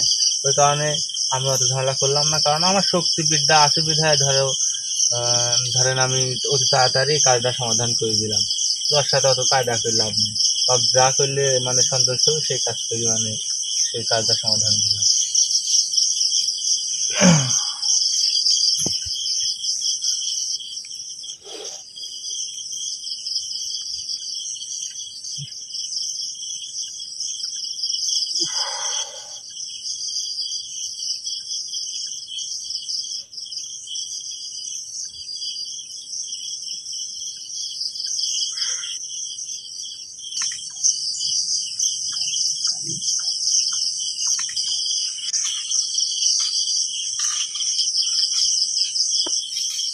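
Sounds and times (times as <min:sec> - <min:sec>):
insects pulsing trill: 0:00.0 - 0:49.9.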